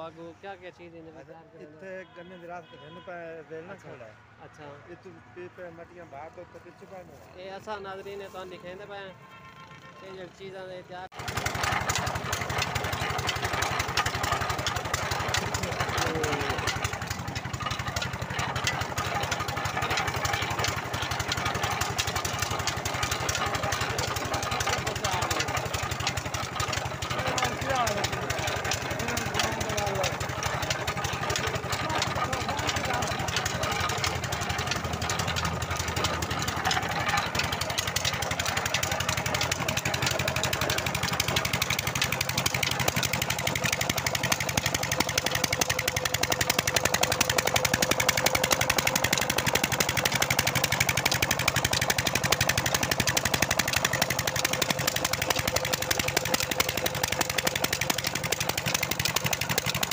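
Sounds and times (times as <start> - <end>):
small engine running steadily: 9.4 - 59.9.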